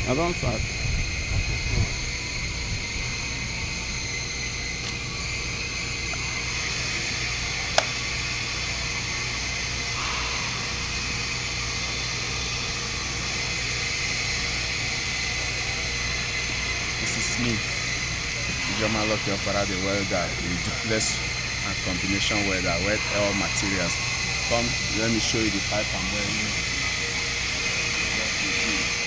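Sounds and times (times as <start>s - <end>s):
even hiss: 0.0s - 29.0s
low machine hum: 0.0s - 29.0s.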